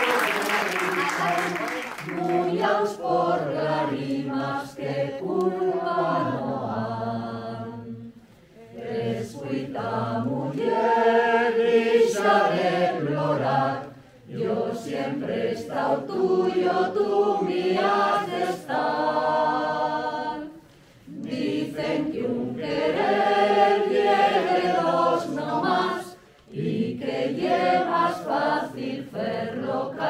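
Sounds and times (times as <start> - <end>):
group singing unaccompanied: 1.0 - 30.0.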